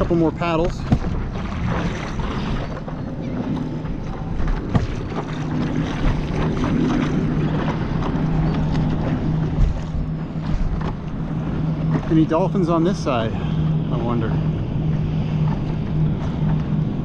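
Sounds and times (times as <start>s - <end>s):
paddle strokes: 0.0s - 17.0s
steady low hum: 0.0s - 17.0s
water sloshing and splashing: 0.0s - 17.0s.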